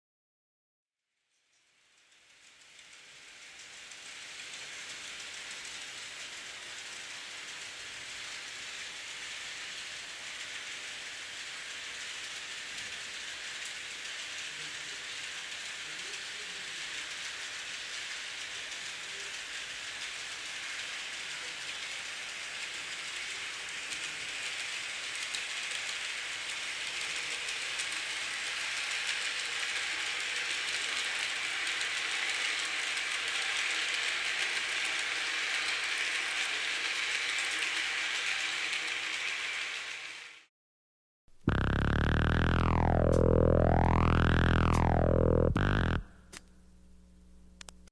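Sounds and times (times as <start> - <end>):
model train wheels clattering on rails: 1.6 - 40.2.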